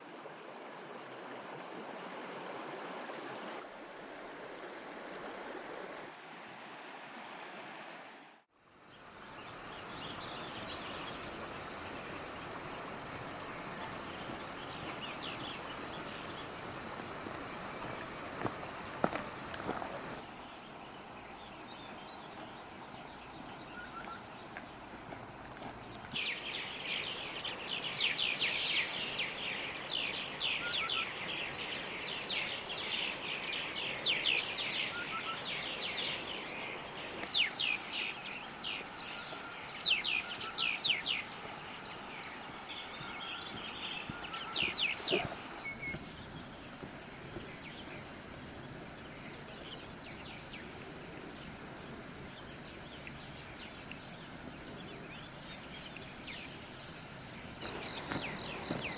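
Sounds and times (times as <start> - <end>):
high-pitched insect whine: 8.7 - 58.9
songbirds singing: 8.8 - 58.9.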